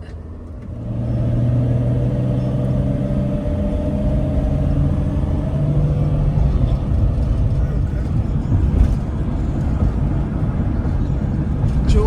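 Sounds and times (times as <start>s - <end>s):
road rumble: 0.0s - 12.0s
vehicle engine drone: 0.0s - 12.0s.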